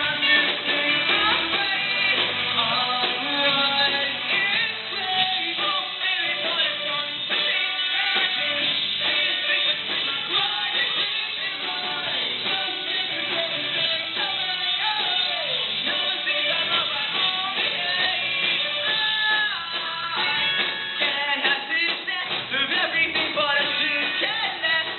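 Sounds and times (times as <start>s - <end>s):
guitar: 0.0s - 24.9s
person singing: 0.0s - 24.9s
rock band playing: 0.0s - 24.9s.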